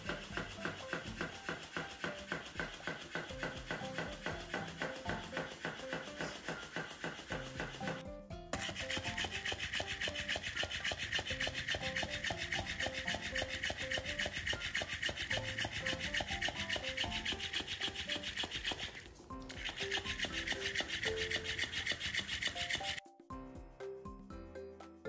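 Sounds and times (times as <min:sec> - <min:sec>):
toy motor rasping and tail slapping: 0:00.0 - 0:23.0.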